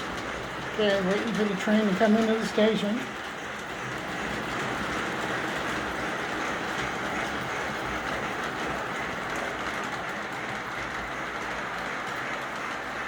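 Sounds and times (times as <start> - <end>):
model train motor whirring: 0.0 - 13.0.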